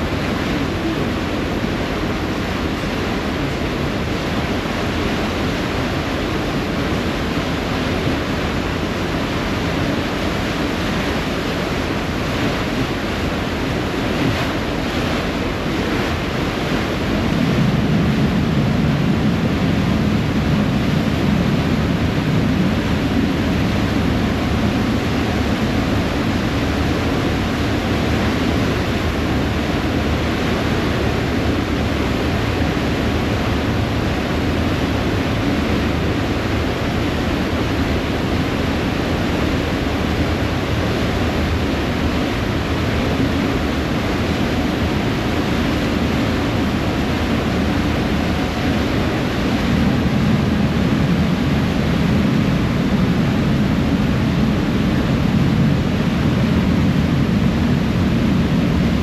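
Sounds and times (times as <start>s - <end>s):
low engine rumble: 0.0s - 59.0s
water churning and splashing: 0.0s - 59.0s
wind: 0.0s - 59.0s.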